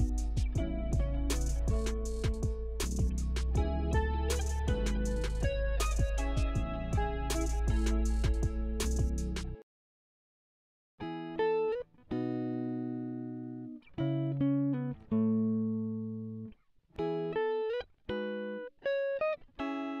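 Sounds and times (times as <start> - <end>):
guitar chords ringing: 0.0 - 9.4, 11.0 - 20.0.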